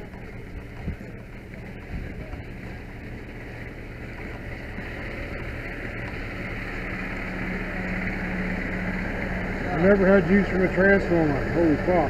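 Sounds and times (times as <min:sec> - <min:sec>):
diesel truck engine running: 0:00.0 - 0:12.0
low drone: 0:00.0 - 0:12.0.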